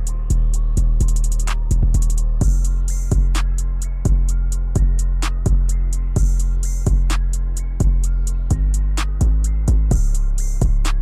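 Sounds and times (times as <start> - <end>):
deep sustained bass: 0.0 - 11.0
ticking cymbal strokes: 0.0 - 11.0.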